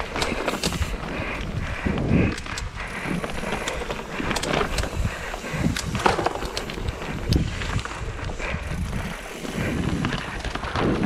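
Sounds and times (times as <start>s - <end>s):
bike rattling and knocking: 0.0s - 11.0s
bike tyres on dirt: 0.0s - 11.0s.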